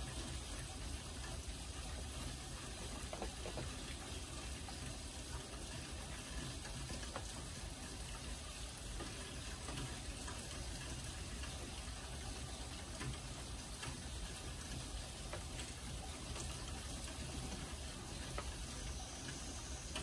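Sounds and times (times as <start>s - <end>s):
raindrop taps: 0.0s - 20.0s
steady rain hiss: 0.0s - 20.0s.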